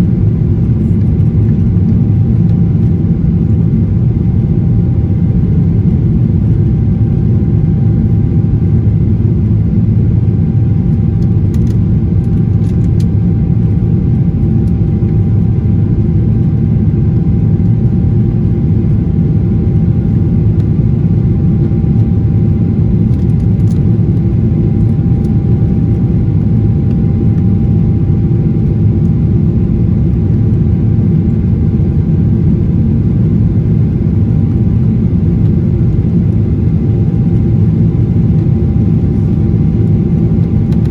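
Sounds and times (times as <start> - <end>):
airplane engine rumble: 0.0 - 40.9.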